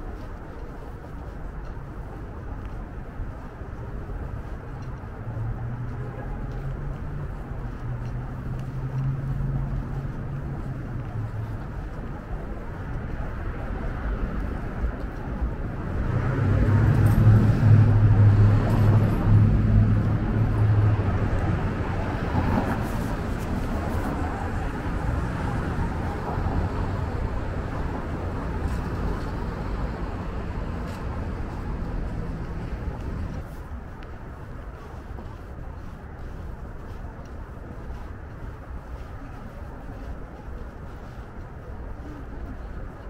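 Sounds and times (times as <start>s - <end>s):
road noise: 0.0s - 43.0s
vehicle engine hum: 0.0s - 43.0s.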